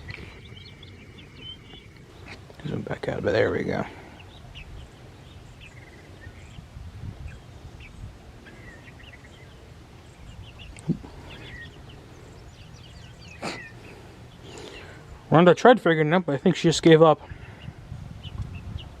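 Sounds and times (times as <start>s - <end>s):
high bird chirps: 0.0s - 15.2s
low outdoor rumble: 0.0s - 19.0s.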